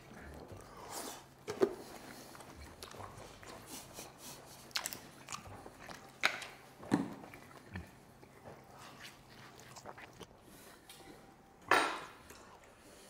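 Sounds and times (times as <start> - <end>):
chewing steak: 0.0 - 11.4.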